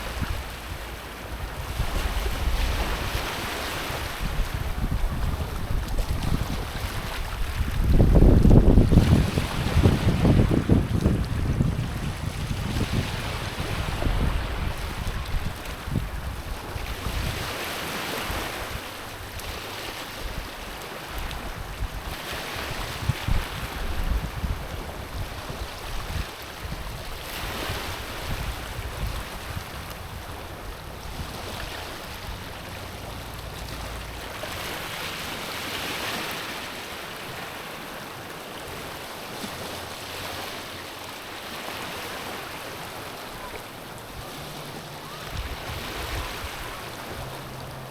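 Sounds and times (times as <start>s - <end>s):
wind buffeting microphone: 0.0s - 36.6s, 42.0s - 47.9s
waves lapping on stony shore: 0.0s - 47.9s.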